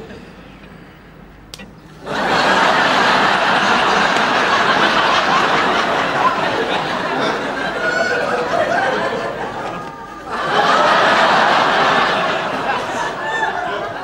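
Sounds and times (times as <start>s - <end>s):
studio audience laughing: 2.0s - 14.0s.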